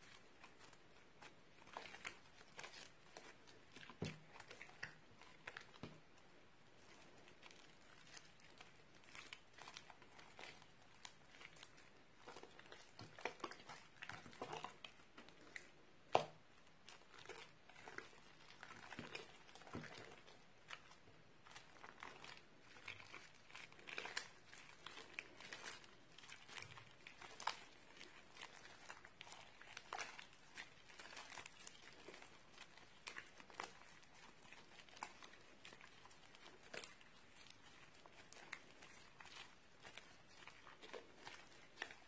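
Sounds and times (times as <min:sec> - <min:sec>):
sticky slime clicking and crackling: 0:00.0 - 0:42.0.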